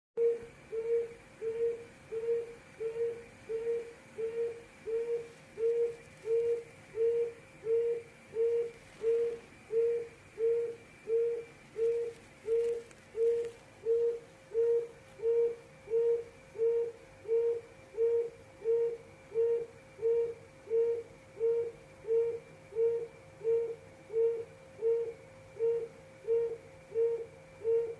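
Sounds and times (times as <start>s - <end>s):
quail hooting call: 0.2s - 27.9s.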